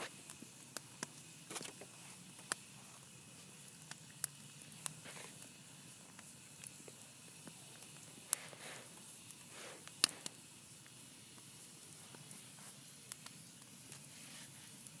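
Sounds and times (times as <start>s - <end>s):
campfire hissing: 0.0s - 15.0s
fire crackles and pops: 0.0s - 15.0s.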